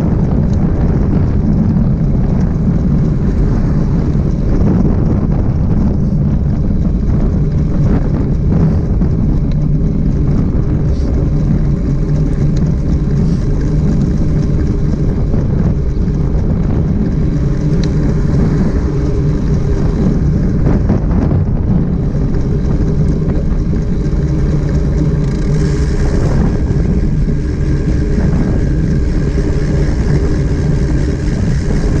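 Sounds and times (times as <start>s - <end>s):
vehicle hum: 0.0s - 32.0s
wind on microphone: 0.0s - 32.0s.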